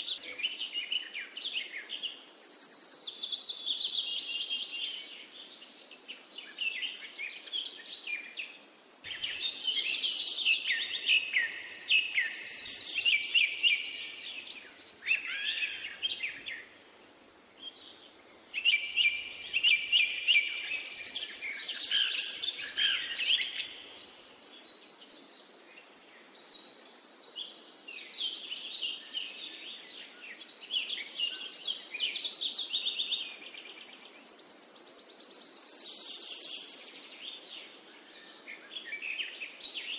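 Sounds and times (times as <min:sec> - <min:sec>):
songbirds chirping and singing: 0:00.0 - 0:17.0, 0:17.6 - 0:39.9
faint steady hiss: 0:00.0 - 0:39.9.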